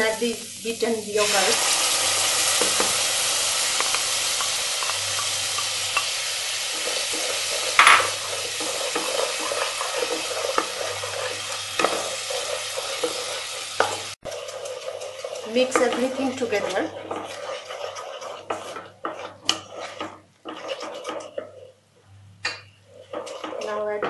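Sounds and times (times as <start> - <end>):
food sizzling in hot oil: 0.0 - 21.6
spatula stirring and scraping: 2.4 - 24.0.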